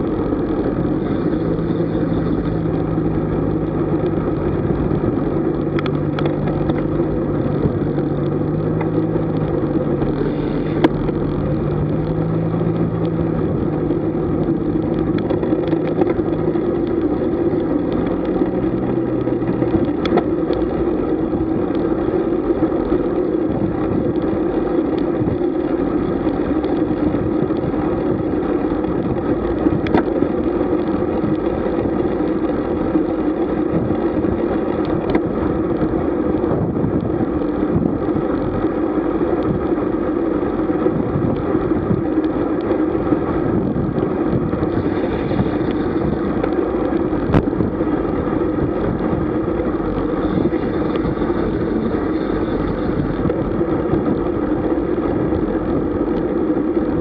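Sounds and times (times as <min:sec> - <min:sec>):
low engine hum: 0:00.0 - 0:57.0
wind and tyre noise: 0:00.0 - 0:57.0.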